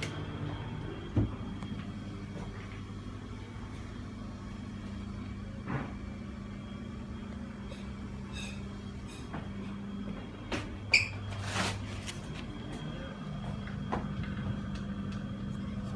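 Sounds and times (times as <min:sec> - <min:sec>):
exhaust fan humming: 0:00.0 - 0:15.9.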